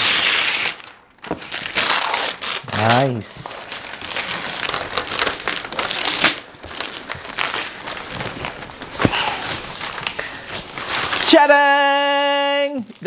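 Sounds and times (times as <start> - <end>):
gift wrap crinkling and tearing: 0.0 - 13.0.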